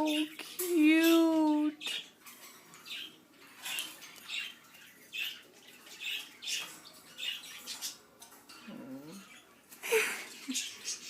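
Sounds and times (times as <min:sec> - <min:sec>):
small birds squawky chirps: 0:00.0 - 0:11.0.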